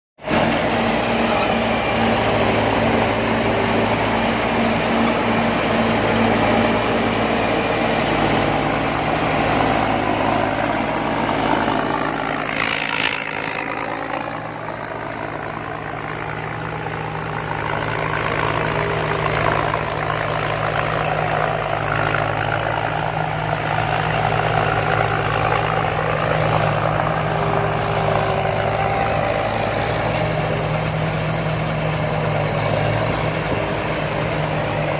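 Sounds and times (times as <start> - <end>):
combine harvester engine running: 0.2 - 34.9.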